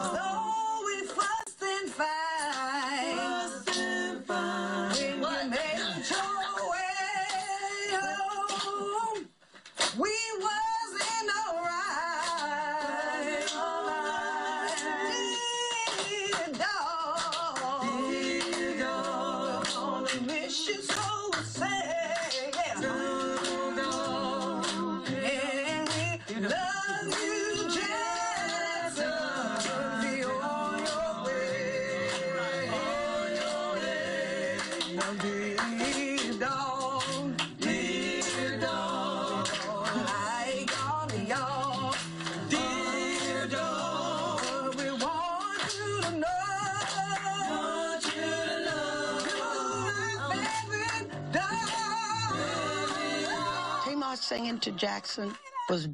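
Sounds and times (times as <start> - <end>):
people singing together: 0.0 - 9.3, 9.9 - 54.6
hand claps: 0.9 - 2.8, 3.6 - 4.0, 4.9 - 15.0, 15.8 - 53.4.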